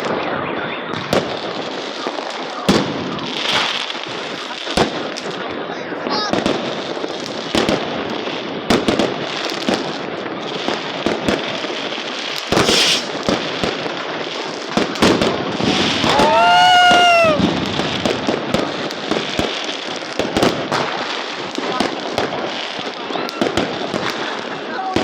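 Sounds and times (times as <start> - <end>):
fireworks bangs and popping: 0.0 - 25.0
fireworks crackle: 0.0 - 25.0.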